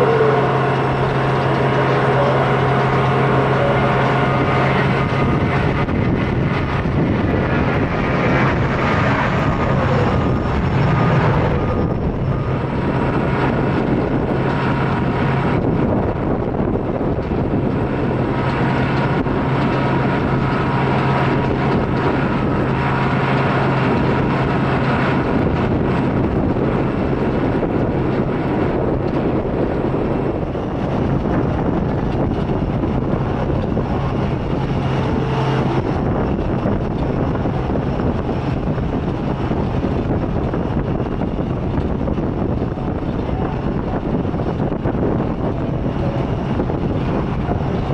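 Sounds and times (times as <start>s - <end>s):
jet engines running: 0.0s - 47.9s.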